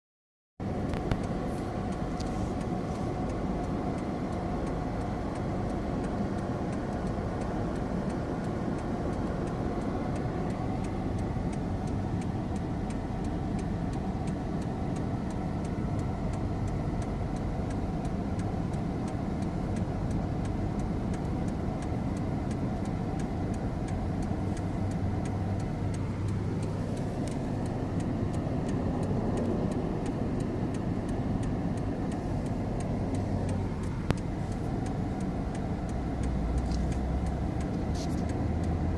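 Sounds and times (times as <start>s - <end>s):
car engine and road noise: 0.6s - 38.9s
faint regular ticking: 0.6s - 38.9s.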